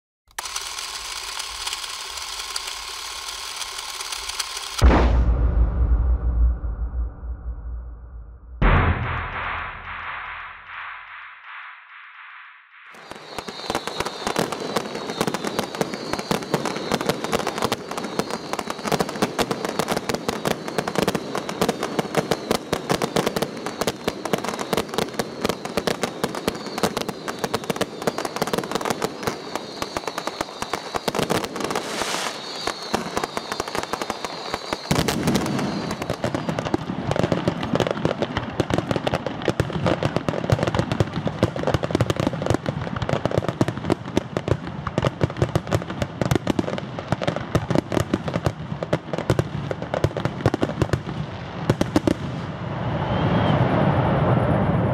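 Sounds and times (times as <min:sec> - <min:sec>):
fireworks cracking and banging: 0:08.6 - 0:11.9, 0:12.9 - 0:53.6.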